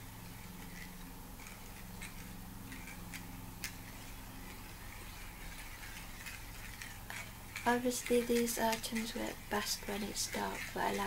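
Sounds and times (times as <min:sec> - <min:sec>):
steady low hum: 0:00.0 - 0:11.0
toy metal clicks: 0:00.3 - 0:11.0.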